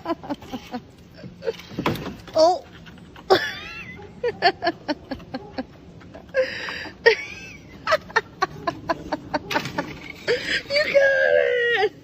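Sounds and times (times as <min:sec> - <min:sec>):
high laughter-like whimpering: 0:00.0 - 0:01.8, 0:02.4 - 0:12.0.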